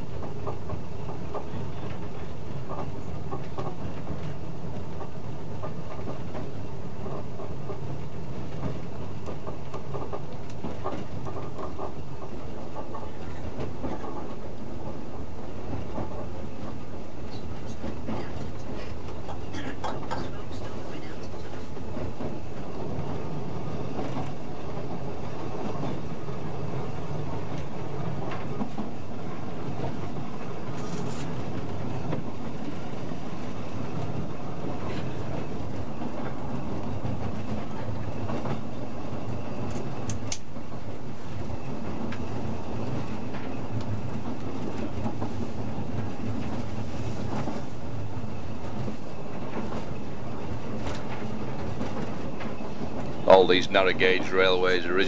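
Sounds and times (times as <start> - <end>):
train rumble from inside cab: 0.0 - 55.0
wheels clicking over rail joints: 0.0 - 55.0.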